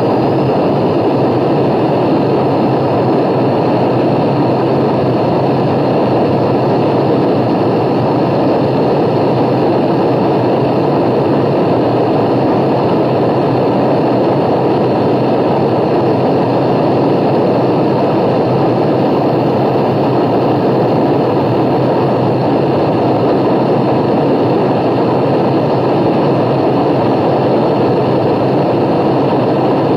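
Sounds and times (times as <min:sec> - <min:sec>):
aircraft engine droning: 0:00.0 - 0:29.9.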